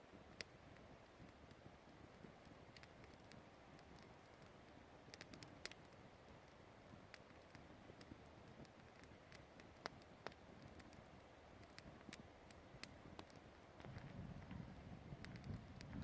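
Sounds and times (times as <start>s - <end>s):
campfire crackling: 0.0s - 16.0s
soft steady hiss: 0.0s - 16.0s.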